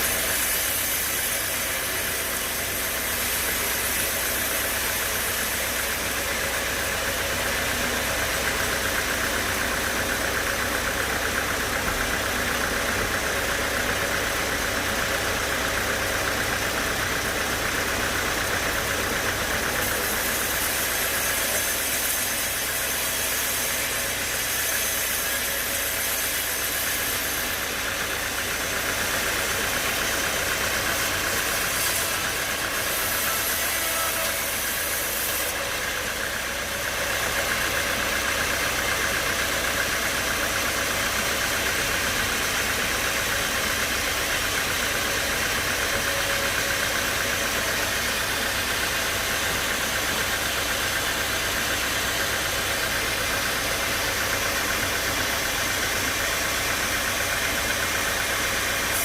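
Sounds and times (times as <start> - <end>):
saw cutting log hiss: 0.0 - 59.0
sawmill machinery drone: 0.0 - 59.0.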